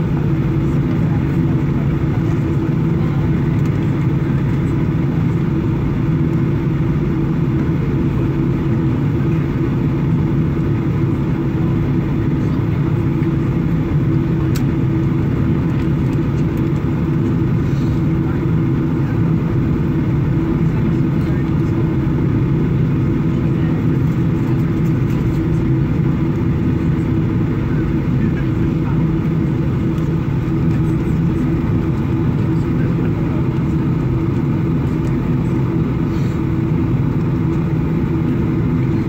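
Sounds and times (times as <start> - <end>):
aircraft cabin drone: 0.0 - 39.0.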